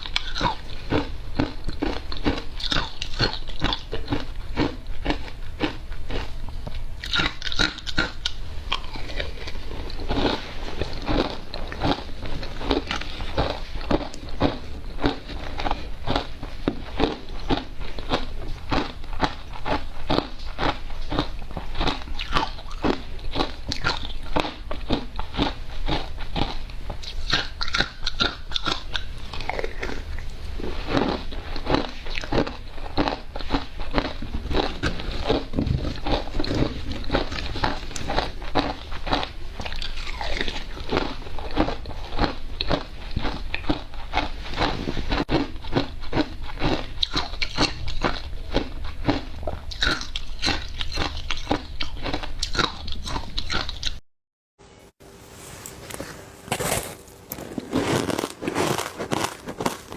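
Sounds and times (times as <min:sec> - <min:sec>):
crunching and chewing ice: 0:00.0 - 0:54.0, 0:56.5 - 0:59.9.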